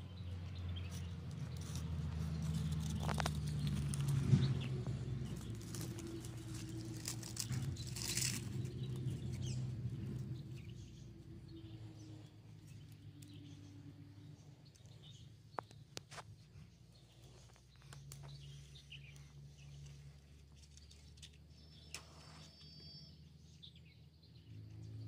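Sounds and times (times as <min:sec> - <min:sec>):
dry grass and twigs crackling: 0:00.0 - 0:21.9
low outdoor rumble: 0:00.0 - 0:25.0.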